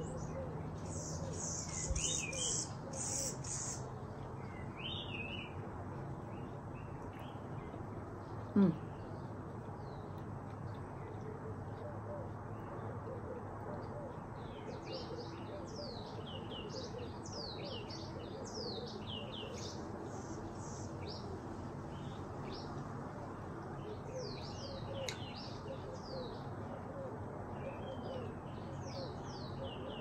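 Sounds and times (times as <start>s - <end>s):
small birds chirping: 0.0s - 22.8s, 23.4s - 26.9s
steady background noise: 0.0s - 30.0s.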